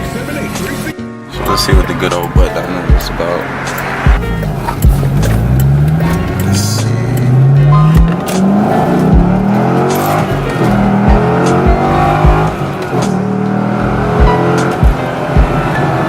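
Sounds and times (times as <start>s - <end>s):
car engine accelerating: 0.0s - 16.0s
low thumps: 1.6s - 15.8s.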